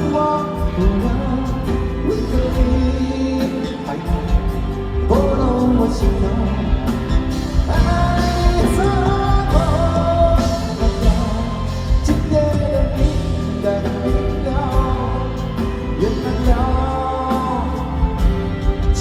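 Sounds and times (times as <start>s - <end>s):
live band playing pop ballad: 0.0s - 19.0s.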